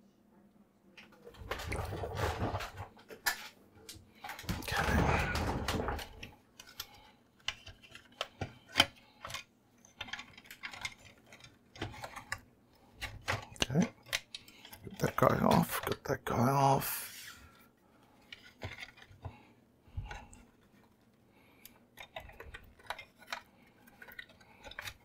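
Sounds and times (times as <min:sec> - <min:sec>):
printer parts rattling and scraping: 0:01.1 - 0:16.7, 0:17.4 - 0:25.0.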